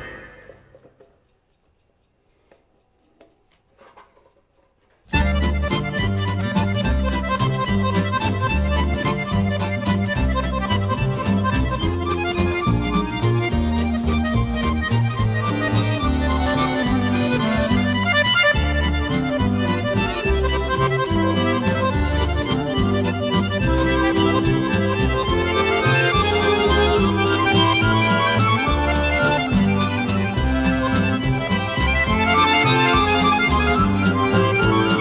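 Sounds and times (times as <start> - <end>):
instrumental background music: 5.2 - 35.0.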